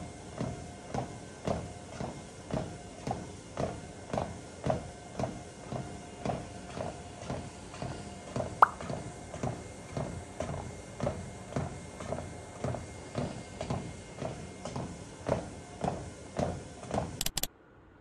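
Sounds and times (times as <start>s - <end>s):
footsteps on treadmill belt: 0.0s - 17.5s
treadmill motor hum: 0.0s - 17.5s.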